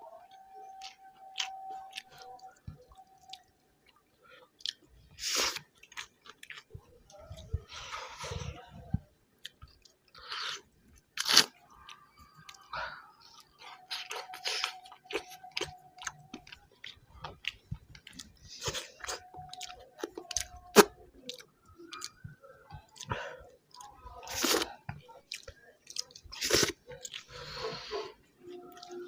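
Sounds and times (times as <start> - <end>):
person chewing wetly: 0.2 - 7.6, 9.4 - 27.7.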